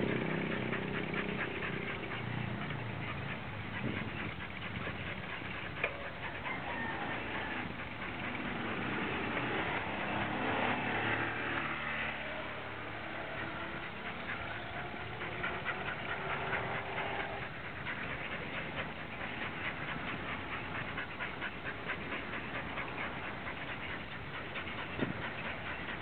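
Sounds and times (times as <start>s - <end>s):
paws and bike clicking: 0.0s - 26.0s.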